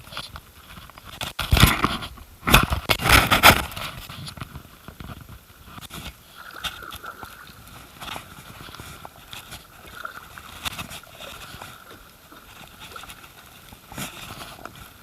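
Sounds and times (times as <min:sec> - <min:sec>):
water noise: 0:00.0 - 0:15.0
paddle splashing water: 0:00.1 - 0:15.0.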